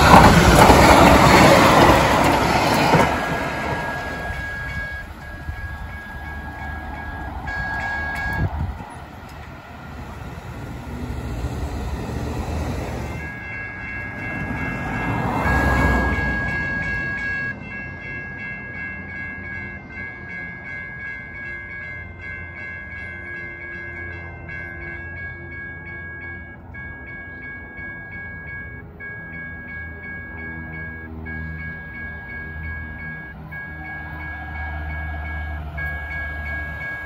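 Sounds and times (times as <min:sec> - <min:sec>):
crossing warning bell ringing: 0:00.0 - 0:37.0
light rail train passing: 0:00.0 - 0:37.0.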